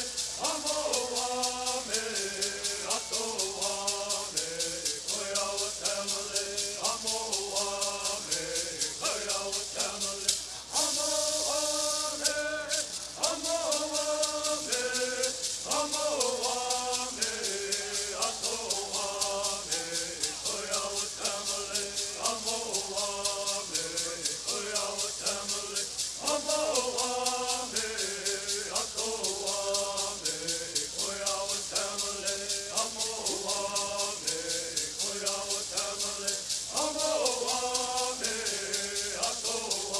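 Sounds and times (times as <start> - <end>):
gourd rattles shaking: 0.0 - 39.9
group singing in unison: 0.0 - 39.9.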